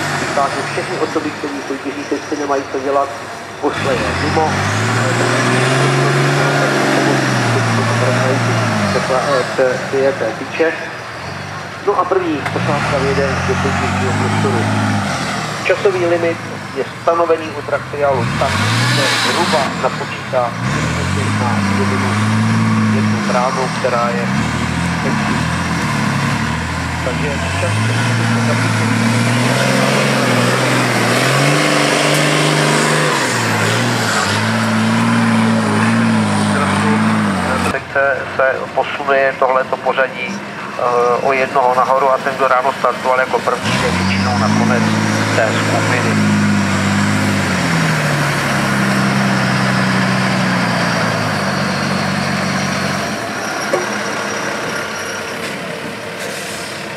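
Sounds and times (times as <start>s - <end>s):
diesel truck engine revving: 0.0s - 56.9s.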